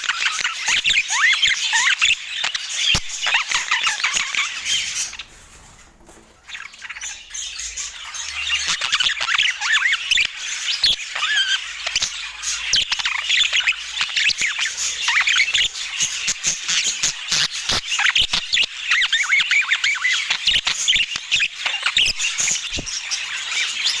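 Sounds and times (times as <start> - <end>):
budgerigars chattering: 0.0 - 5.4, 6.4 - 24.0.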